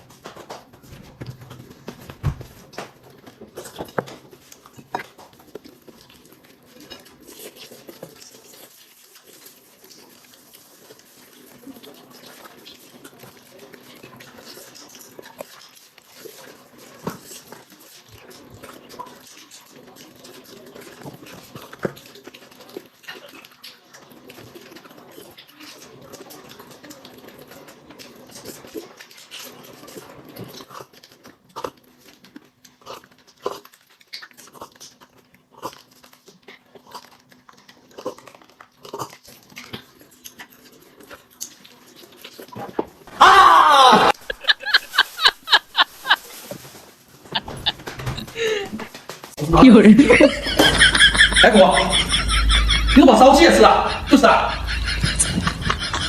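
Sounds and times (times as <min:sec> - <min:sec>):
person chewing food: 0:00.0 - 0:43.2, 0:44.1 - 0:49.6.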